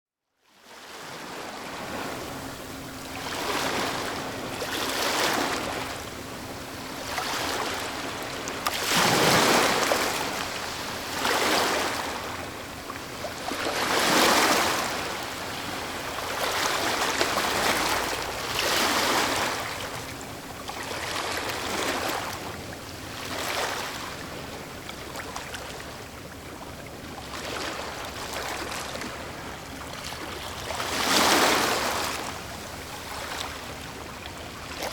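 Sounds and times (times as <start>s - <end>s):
ocean waves breaking on shore: 0.6s - 34.9s.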